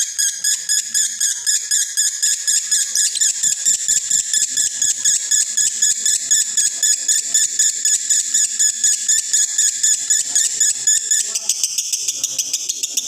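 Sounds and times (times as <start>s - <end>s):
lovebird chattering chirps: 0.0s - 13.0s.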